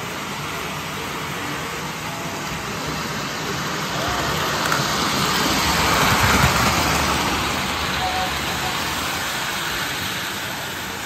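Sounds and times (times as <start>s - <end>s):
model train rumbling whir: 0.0s - 11.0s.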